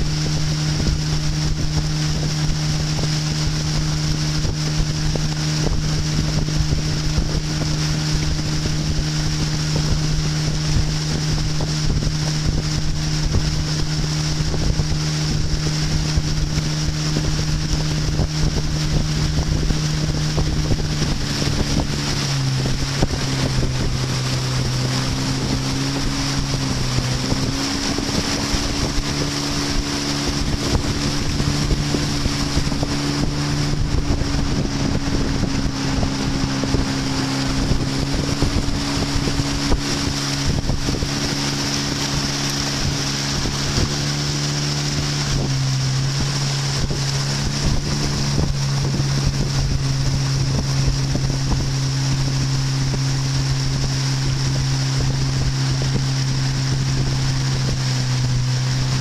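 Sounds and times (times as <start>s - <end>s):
boat motor running: 0.0s - 59.0s
wind buffeting microphone: 0.0s - 59.0s.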